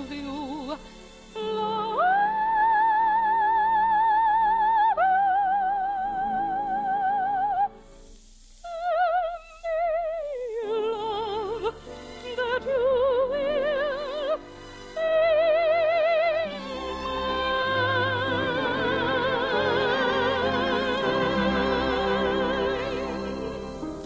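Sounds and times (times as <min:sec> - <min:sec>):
operetta singing with orchestra: 0:00.0 - 0:07.8, 0:08.7 - 0:24.0.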